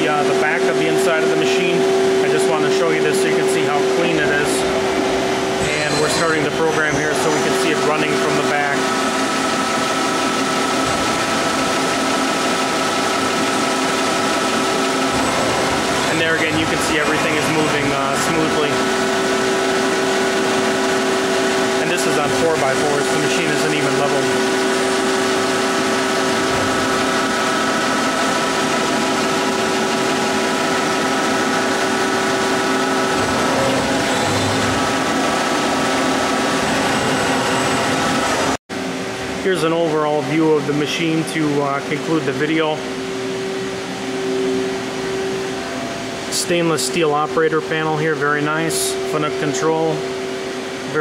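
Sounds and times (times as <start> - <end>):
constant high whine: 0.0 - 51.0
machine hum: 0.0 - 51.0.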